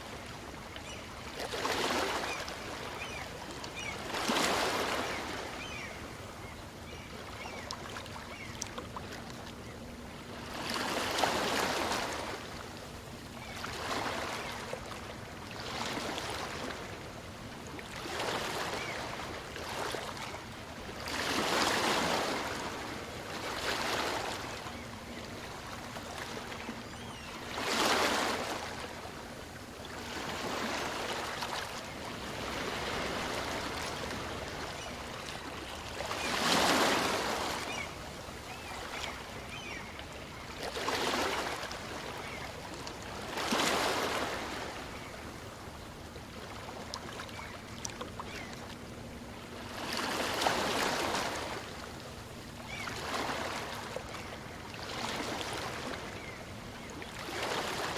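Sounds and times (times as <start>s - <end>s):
small waves breaking on beach: 0.0s - 6.5s, 10.3s - 12.8s, 13.4s - 17.2s, 17.8s - 48.5s, 49.4s - 57.9s.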